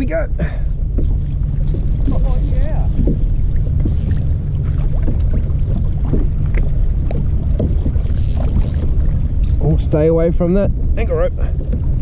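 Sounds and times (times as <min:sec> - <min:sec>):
water slapping a kayak hull: 0:00.0 - 0:12.0
wind buffeting microphone: 0:00.0 - 0:12.0.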